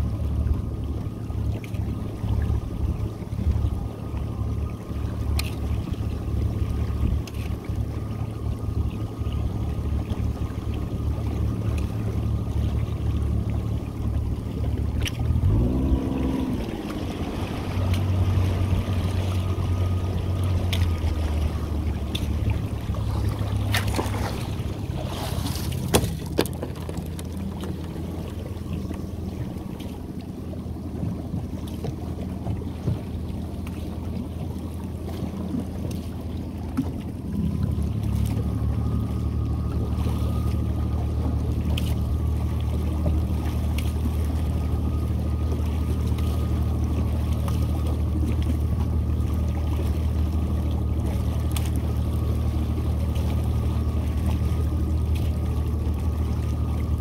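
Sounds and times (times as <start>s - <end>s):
boat motor idling: 0.0s - 57.0s.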